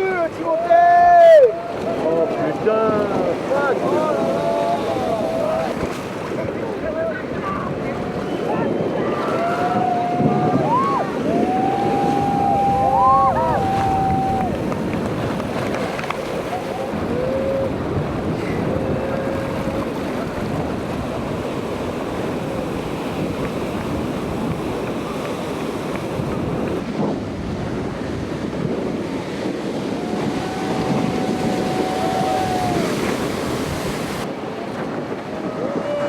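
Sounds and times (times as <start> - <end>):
waves breaking: 0.0 - 36.0.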